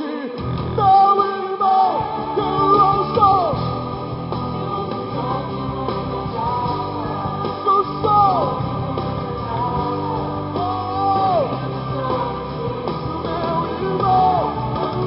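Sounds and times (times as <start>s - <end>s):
instrumental worship band music: 0.0s - 15.0s.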